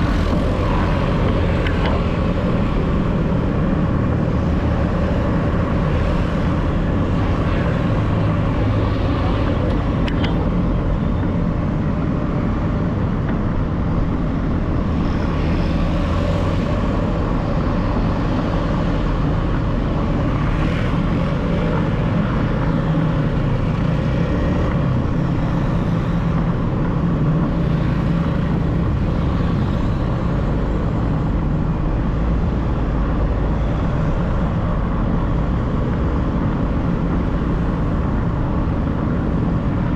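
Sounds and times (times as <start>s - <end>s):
city traffic rumble: 0.0s - 39.9s.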